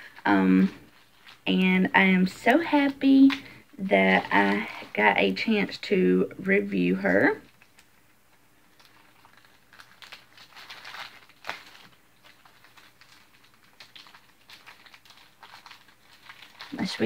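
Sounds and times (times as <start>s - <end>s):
package wrapping crinkling: 0.0s - 5.5s, 7.4s - 17.0s.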